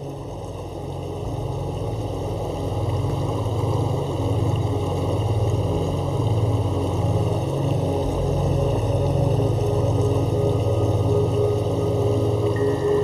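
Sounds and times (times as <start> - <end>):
boat engine droning: 0.7 - 13.0.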